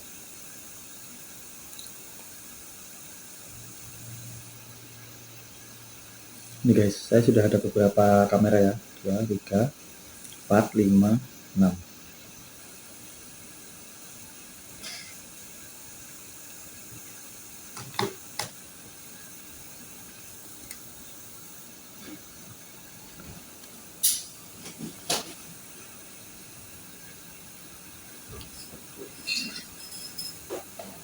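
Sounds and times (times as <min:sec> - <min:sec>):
faint hiss: 0:00.0 - 0:31.0.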